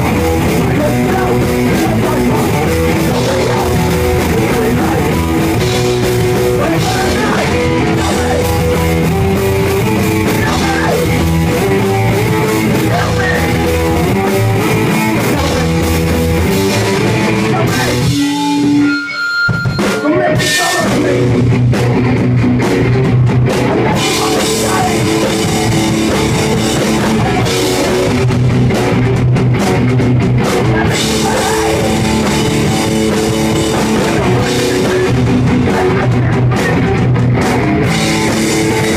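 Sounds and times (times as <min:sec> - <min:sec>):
drum kit: 0:00.0 - 0:38.9
electric guitar: 0:00.0 - 0:38.9.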